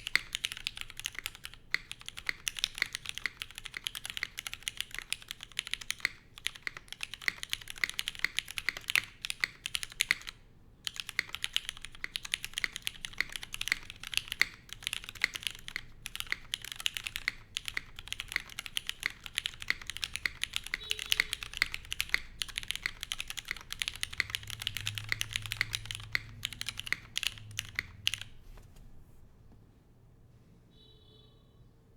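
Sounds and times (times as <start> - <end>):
mechanical keyboard typing: 0.0 - 28.4.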